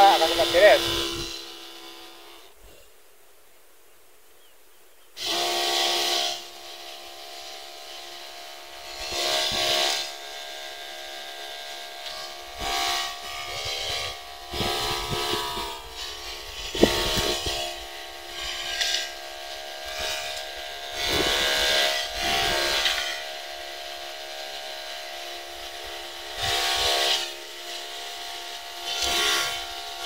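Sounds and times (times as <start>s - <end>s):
sprayer pump whining: 0.0s - 2.6s, 5.2s - 30.0s.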